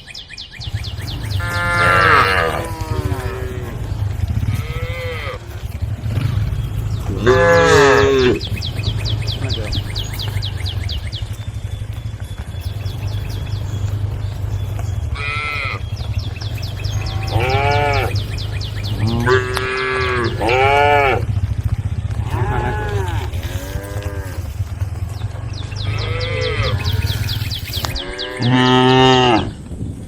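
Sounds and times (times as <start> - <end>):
steady low hum: 0.6 - 28.5
cattle mooing: 0.9 - 11.4, 12.7 - 29.6.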